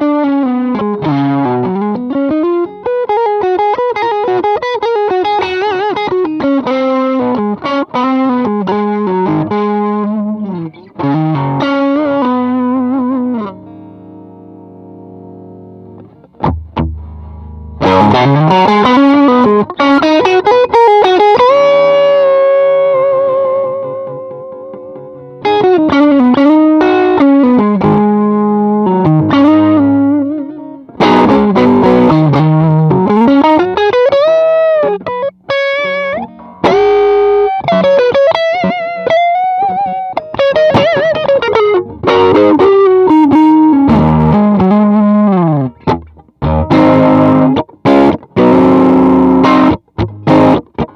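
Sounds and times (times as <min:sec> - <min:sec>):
overdriven electric guitar lead: 0:00.0 - 0:50.9.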